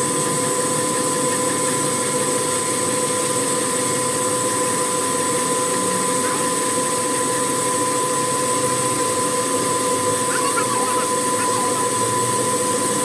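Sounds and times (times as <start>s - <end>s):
machine droning: 0.0s - 13.0s.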